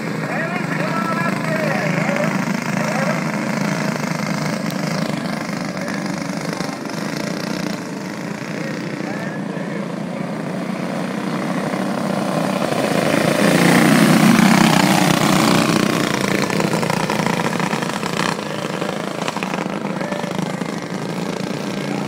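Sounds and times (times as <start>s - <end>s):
go-kart engines droning: 0.0s - 22.0s.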